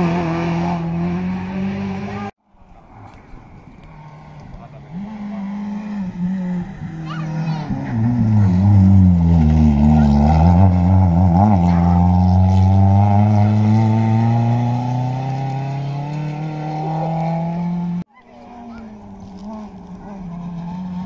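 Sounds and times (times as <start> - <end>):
rally car engine accelerating: 0.0 - 2.3, 2.9 - 18.0, 18.6 - 21.0.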